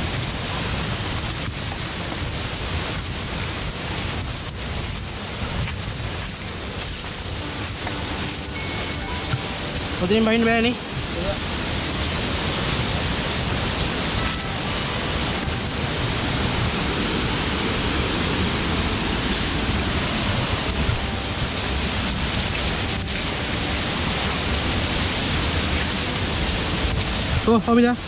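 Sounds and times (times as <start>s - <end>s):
waterfall rushing over rocks: 0.0s - 28.0s.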